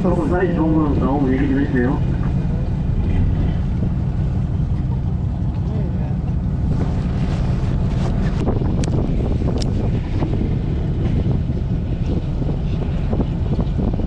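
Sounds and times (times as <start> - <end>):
boat engine rumbling: 0.0 - 14.0
wind buffeting microphone: 0.0 - 14.0.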